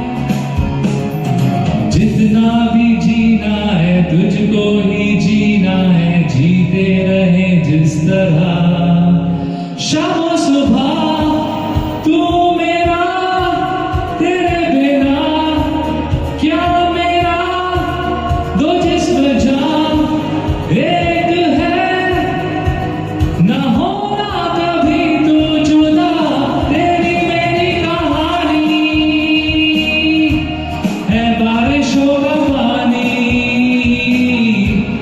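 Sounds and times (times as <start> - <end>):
karaoke backing track: 0.0 - 35.0
wordless sung melody: 0.0 - 35.0.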